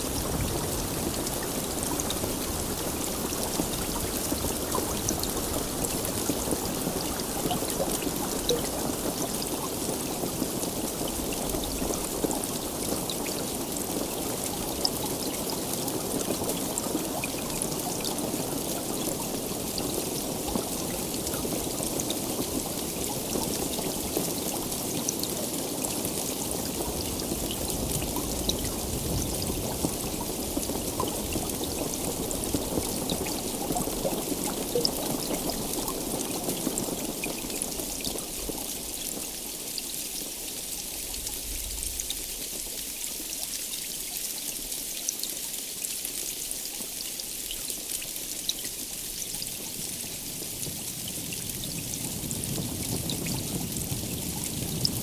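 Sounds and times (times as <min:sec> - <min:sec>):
heavy rain falling: 0:00.0 - 0:55.0
raindrops ticking close by: 0:00.0 - 0:55.0.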